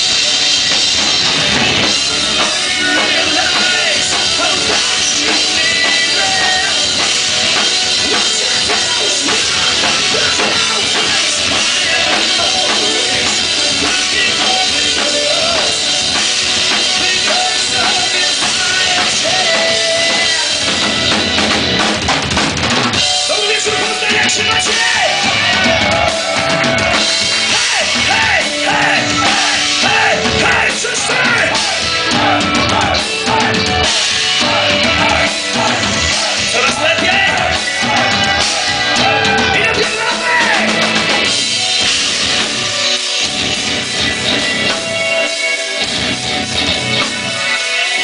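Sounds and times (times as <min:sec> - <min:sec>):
bending lead guitar melody: 0:00.0 - 0:48.0
heavy metal band playing live: 0:00.0 - 0:48.0.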